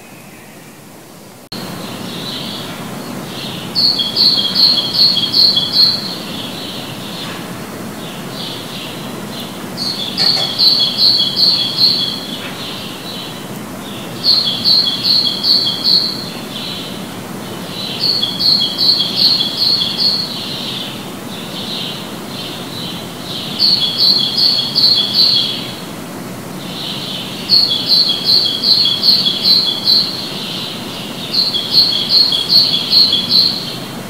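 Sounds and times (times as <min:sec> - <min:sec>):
songbird singing: 0:01.5 - 0:34.0.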